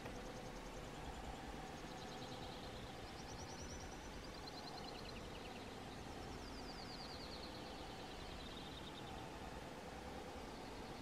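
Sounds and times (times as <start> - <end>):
warbler singing faintly: 0.0 - 11.0.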